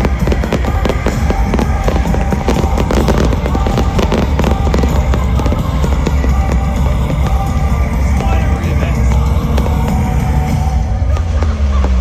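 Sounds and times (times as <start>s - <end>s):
fireworks banging and crackling: 0.0s - 12.0s
loud music: 0.0s - 12.0s.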